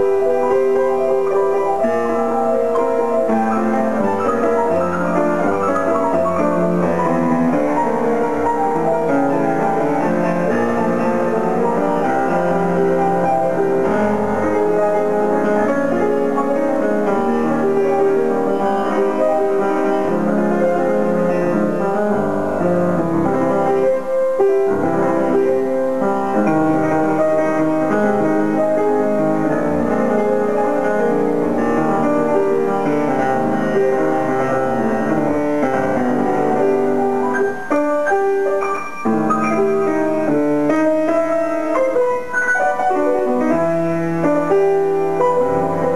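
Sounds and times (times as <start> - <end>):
grand piano playing: 0.0 - 45.9.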